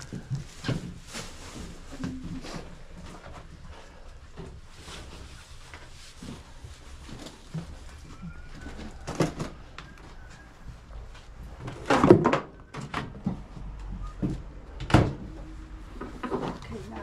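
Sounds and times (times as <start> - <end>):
boxes knocking and clattering: 0.0 - 3.7, 6.2 - 15.4, 16.0 - 17.0.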